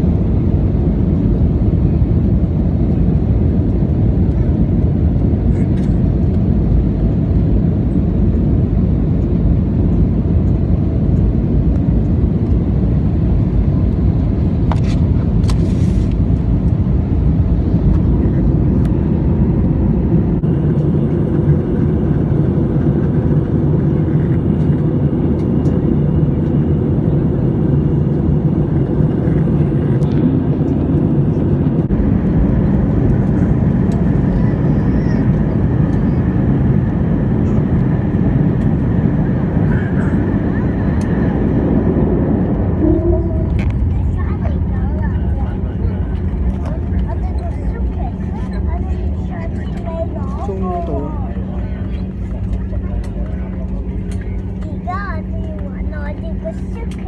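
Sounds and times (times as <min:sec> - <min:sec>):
jet engines and airflow rumble: 0:00.0 - 0:57.0.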